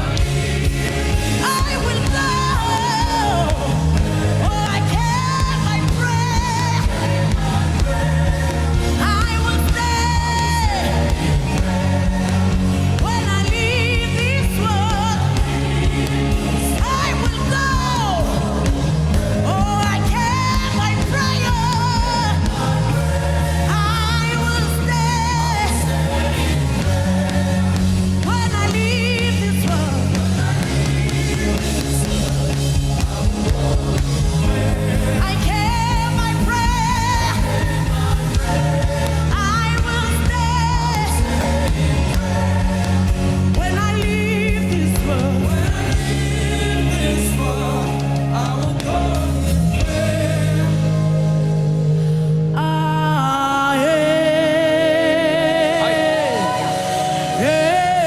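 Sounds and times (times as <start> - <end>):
keyboard and bass chords: 0.0 - 58.0
person singing with vibrato: 0.0 - 58.0.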